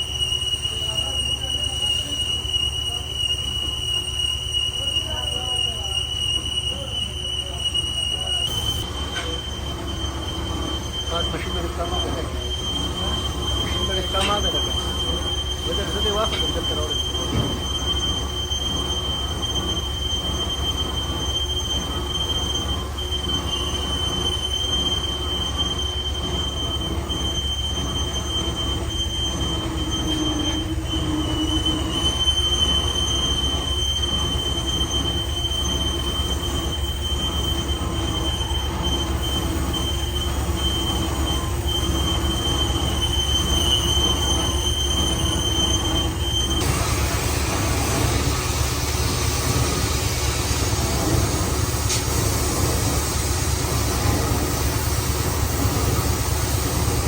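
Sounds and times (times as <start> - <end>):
cutting tool squealing on steel: 0.0 - 57.0
low hum of machine drive: 0.0 - 57.0.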